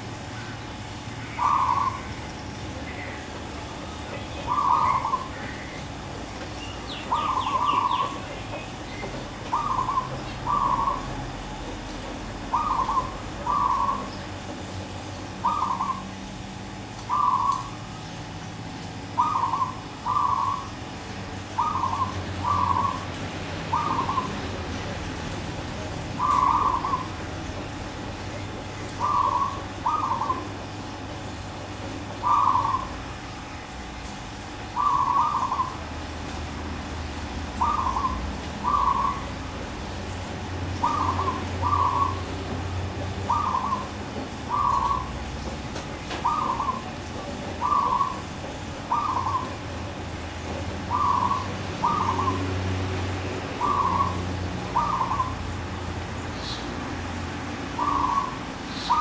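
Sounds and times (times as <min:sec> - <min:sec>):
dove cooing: 0:01.2 - 0:06.1, 0:06.9 - 0:17.8, 0:19.2 - 0:36.0, 0:37.3 - 0:59.0.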